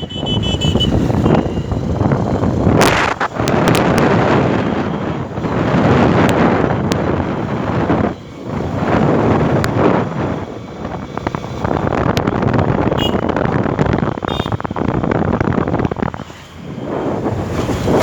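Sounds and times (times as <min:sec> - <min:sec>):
motorcycle engine rumble: 0:00.0 - 0:18.0
road noise: 0:00.0 - 0:18.0
wind buffeting microphone: 0:00.0 - 0:18.0.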